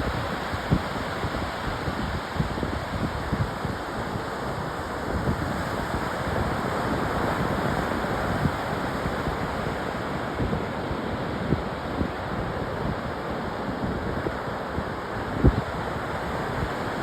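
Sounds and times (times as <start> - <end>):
ocean surf on beach: 0.0 - 17.0
wind rumbling on microphone: 0.0 - 17.0.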